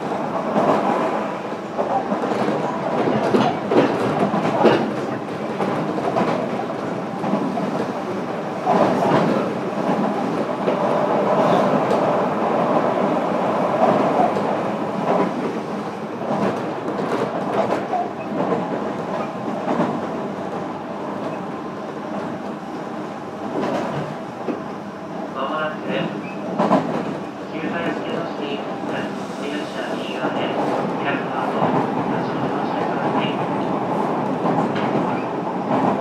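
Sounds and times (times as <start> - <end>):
train running rumble: 0.0 - 36.0.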